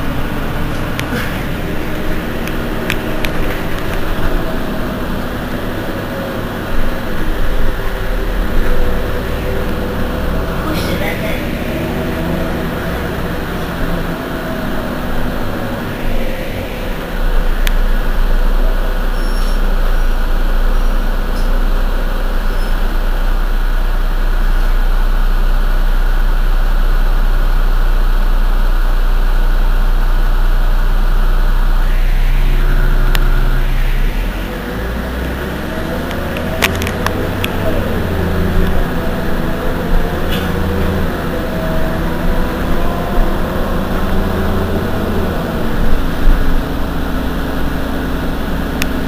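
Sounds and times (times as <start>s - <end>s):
bus engine idling: 0.0s - 49.0s.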